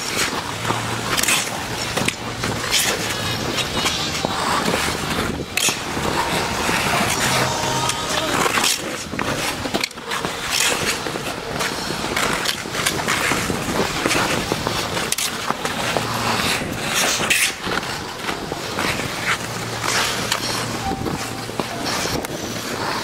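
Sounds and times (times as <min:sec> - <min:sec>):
ice skate blades scraping: 0:00.0 - 0:23.0.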